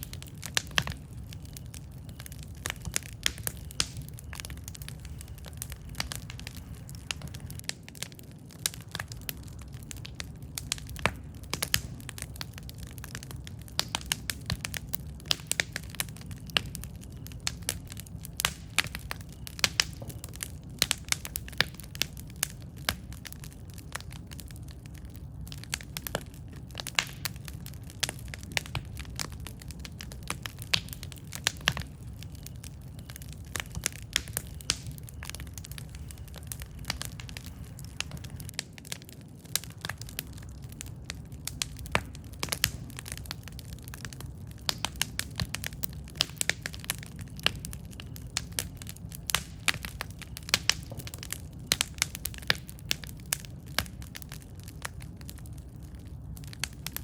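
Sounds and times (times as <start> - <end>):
campfire crackling and popping: 0.0 - 57.0
low rumble of flame: 0.0 - 57.0.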